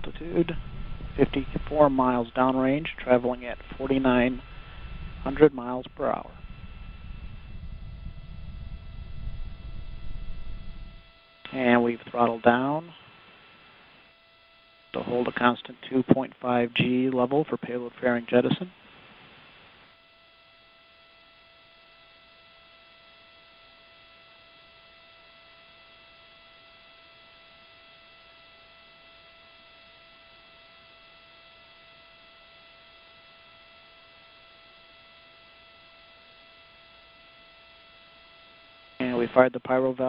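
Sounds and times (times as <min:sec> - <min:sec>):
electrical hum and hiss: 0:00.0 - 0:40.0
steady high whine: 0:00.0 - 0:40.0.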